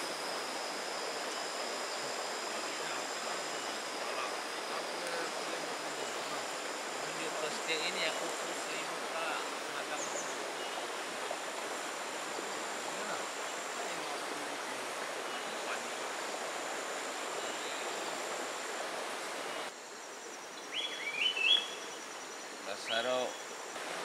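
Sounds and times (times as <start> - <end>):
flowing river water: 0.0 - 19.9, 20.6 - 24.0
thin high steady tone: 0.0 - 20.7.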